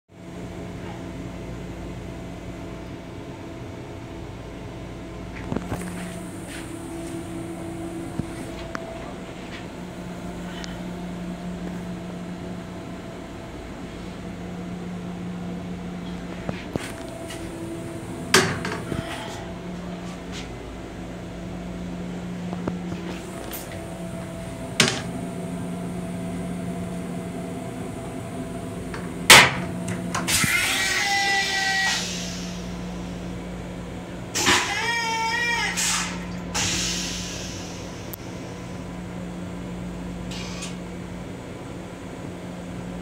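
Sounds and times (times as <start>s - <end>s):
railcar hum: 0.2s - 34.4s, 35.8s - 43.0s.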